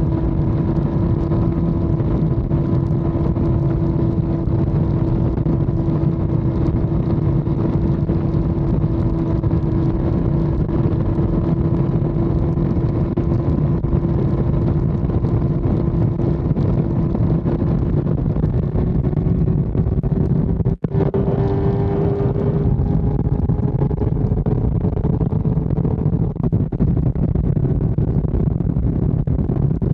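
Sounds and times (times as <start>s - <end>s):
motorcycle engine at speed: 0.0s - 29.9s
wind and road rush: 0.0s - 29.9s.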